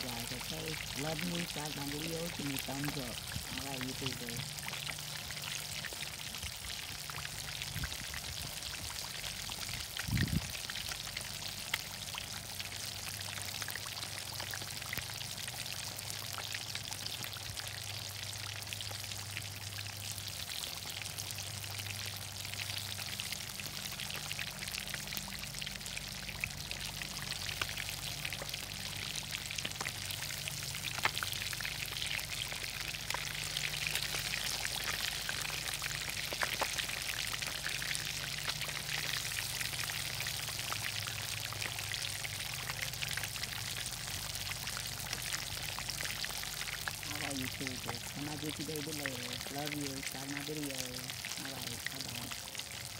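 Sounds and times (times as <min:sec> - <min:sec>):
fish deep-frying in oil: 0:00.0 - 0:52.9.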